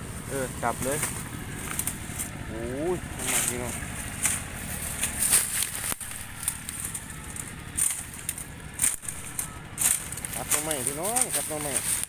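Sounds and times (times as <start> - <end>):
bamboo leaves rustling and crackling: 0.0 - 12.0.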